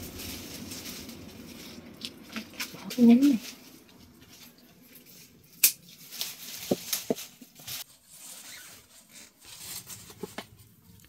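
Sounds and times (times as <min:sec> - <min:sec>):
plant leaves and stems rustling: 0:00.0 - 0:11.0.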